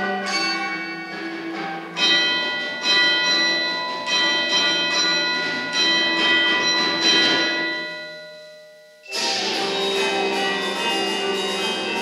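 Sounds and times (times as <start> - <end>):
ringing mallet percussion chords: 0.0 - 12.0.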